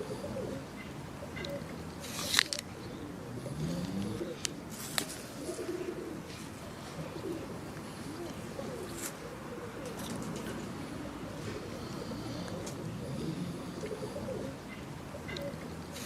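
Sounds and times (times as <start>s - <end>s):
bird cooing: 0.0s - 16.0s.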